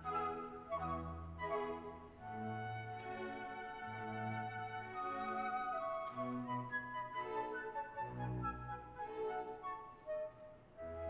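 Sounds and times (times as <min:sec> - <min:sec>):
violins: 0:00.0 - 0:10.0
flute: 0:00.0 - 0:11.0.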